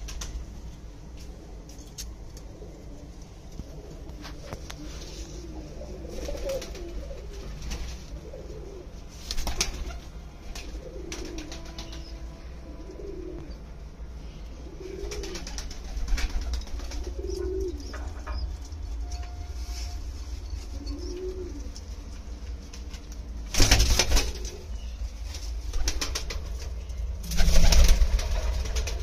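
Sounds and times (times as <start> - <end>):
pigeons cooing: 1.3 - 18.6, 20.4 - 22.4, 23.5 - 29.0.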